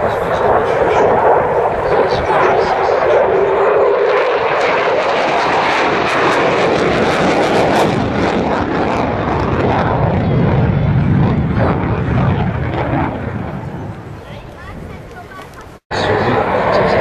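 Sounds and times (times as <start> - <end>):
jet flying past: 0.0 - 17.0.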